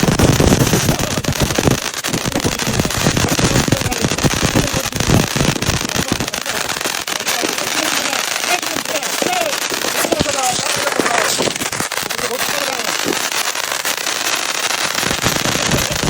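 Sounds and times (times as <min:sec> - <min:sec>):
firework crackling pops and bangs: 0:00.0 - 0:16.0.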